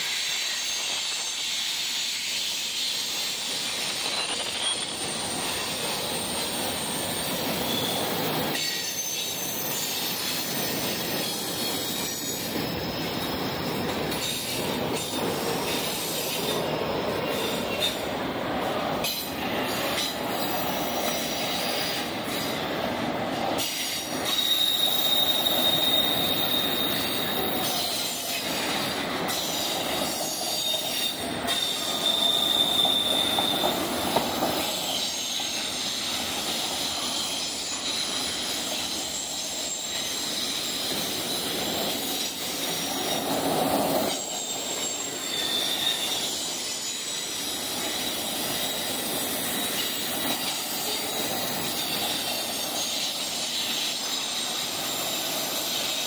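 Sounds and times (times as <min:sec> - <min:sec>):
high-pitched wheel squeal: 0:00.0 - 0:16.6, 0:23.6 - 0:56.0
freight cars rumbling on rails: 0:02.6 - 0:55.9.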